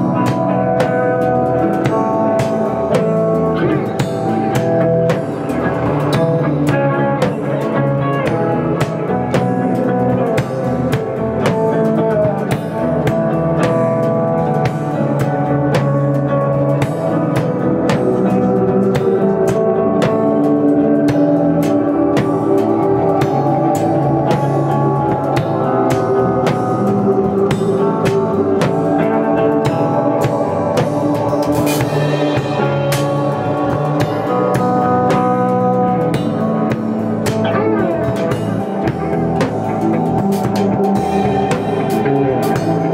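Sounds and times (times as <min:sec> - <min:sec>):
held guitar notes: 0:00.0 - 0:42.9.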